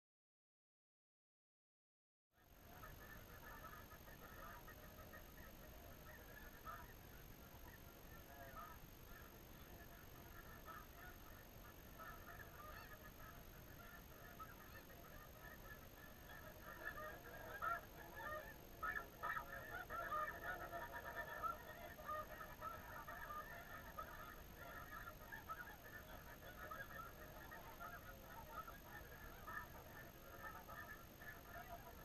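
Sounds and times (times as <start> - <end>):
flock of geese honking: 2.6 - 32.0.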